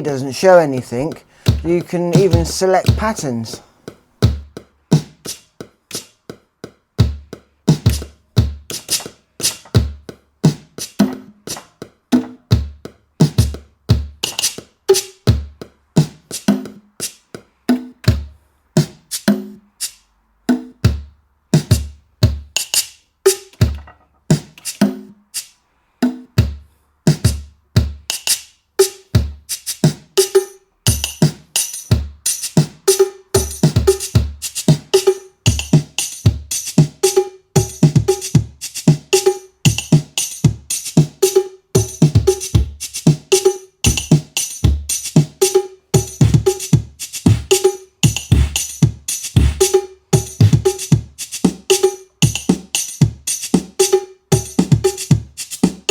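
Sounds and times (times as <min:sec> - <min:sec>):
drum machine beat: 0:00.0 - 0:25.1, 0:26.2 - 0:55.9.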